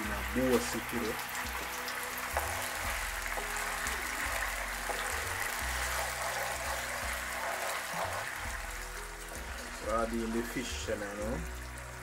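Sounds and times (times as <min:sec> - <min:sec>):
sauce bubbling in frying pan: 0:00.0 - 0:12.0
music with deep bass line: 0:01.5 - 0:12.0.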